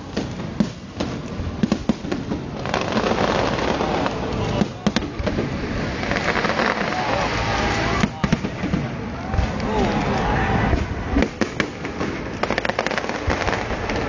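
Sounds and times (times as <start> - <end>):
firework crackle: 0.0 - 14.0
firework shells bursting: 0.0 - 14.0.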